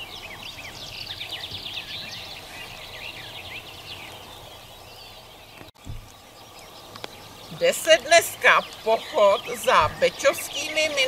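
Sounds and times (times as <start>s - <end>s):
birds chirping: 0.0s - 11.0s
steady background hiss: 0.0s - 11.0s.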